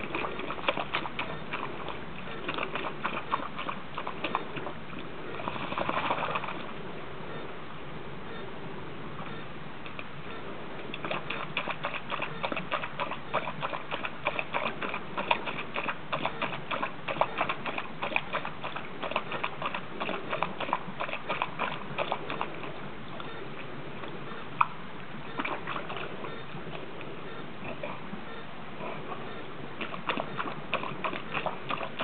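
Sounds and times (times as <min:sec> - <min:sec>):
dog lapping water: 0:00.0 - 0:06.8, 0:10.8 - 0:32.0.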